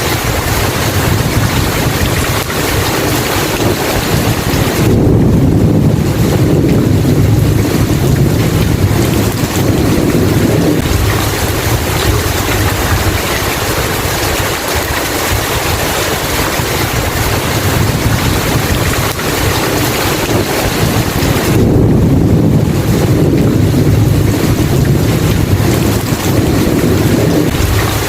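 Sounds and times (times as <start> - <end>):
heavy rain hiss: 0.0 - 28.0
thunder rumbling: 0.0 - 28.0.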